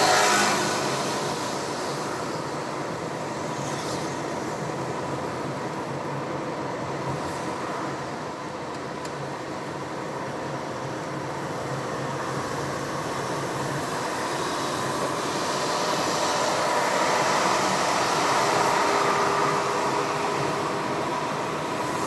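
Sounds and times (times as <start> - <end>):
car engine and tyre drone: 0.0 - 22.0.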